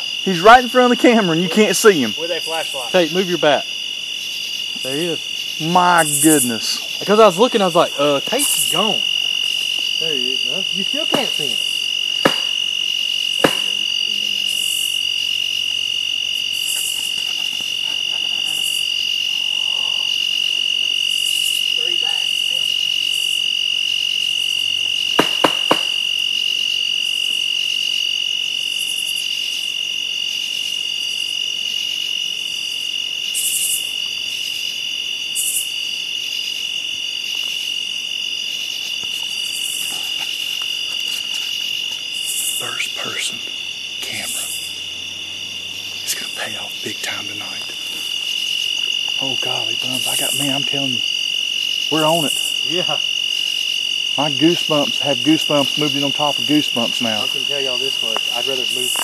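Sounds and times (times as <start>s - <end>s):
crickets trilling: 0.0s - 59.0s
high insect calls: 0.0s - 59.0s.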